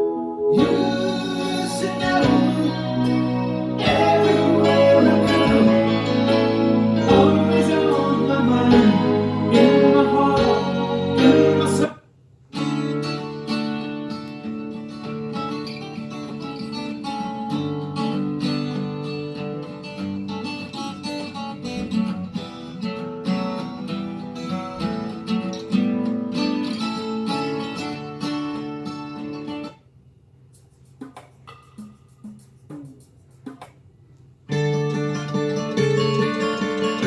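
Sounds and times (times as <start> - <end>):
acoustic guitar music: 0.0 - 29.9, 34.4 - 37.0.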